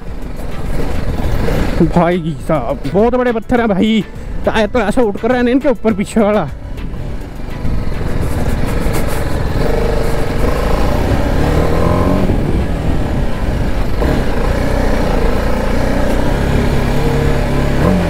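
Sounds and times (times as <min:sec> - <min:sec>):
motorcycle engine revving: 0:00.0 - 0:03.2, 0:06.3 - 0:18.0.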